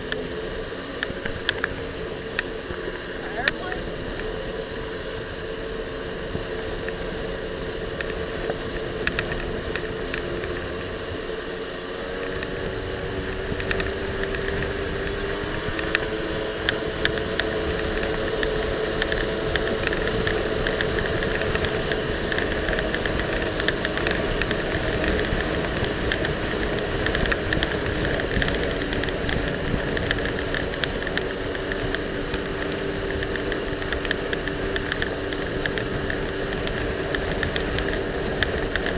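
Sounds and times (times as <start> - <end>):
jet ski engine running: 0.0 - 38.9
wind and water noise: 0.0 - 38.9.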